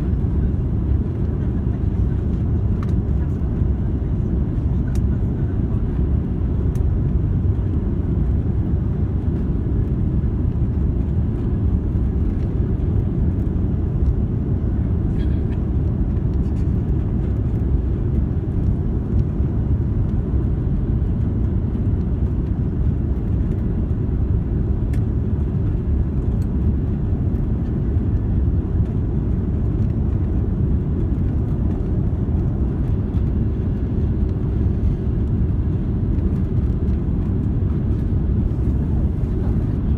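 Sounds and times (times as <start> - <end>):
airplane low rumble: 0.0 - 39.9.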